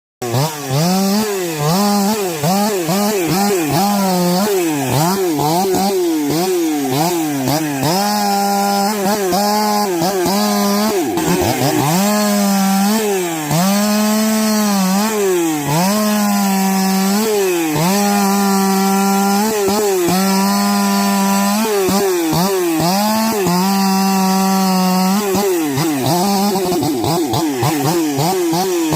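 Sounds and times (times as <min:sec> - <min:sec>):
chainsaw cutting wood: 0:00.2 - 0:28.9.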